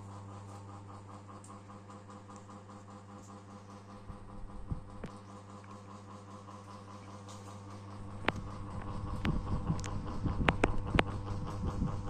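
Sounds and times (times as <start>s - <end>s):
ceiling fan humming and pulsing: 0.0s - 12.0s.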